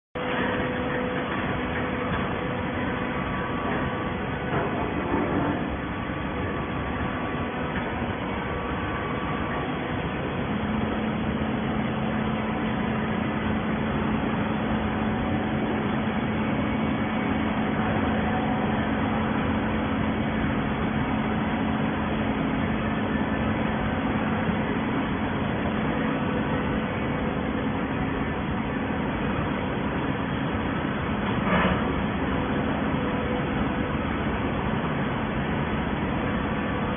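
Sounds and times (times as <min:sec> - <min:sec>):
bottle baler mechanical noise: 0:00.2 - 0:36.9
steady hum: 0:00.2 - 0:36.9.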